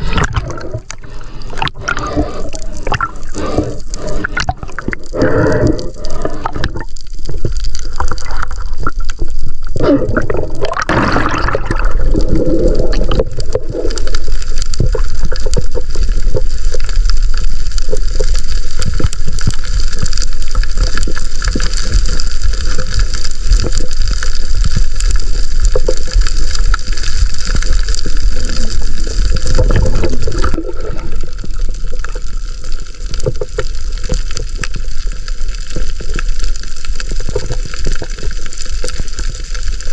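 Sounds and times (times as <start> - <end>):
bubbling gurgles: 0.0 - 39.9
muffled underwater rush: 0.0 - 39.9
small crackling clicks: 0.8 - 9.8, 12.1 - 39.9.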